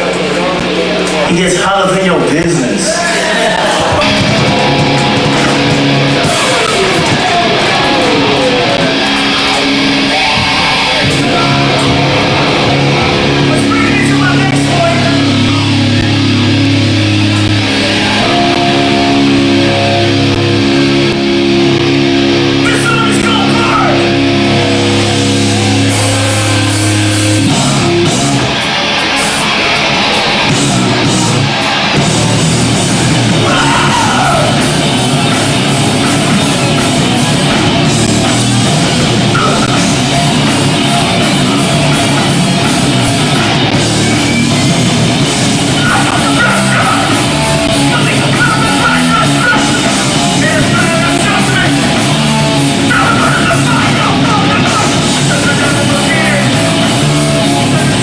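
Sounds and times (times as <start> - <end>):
punk band playing loud: 0.0 - 58.0
shouted vocals: 2.5 - 20.2, 22.5 - 58.0.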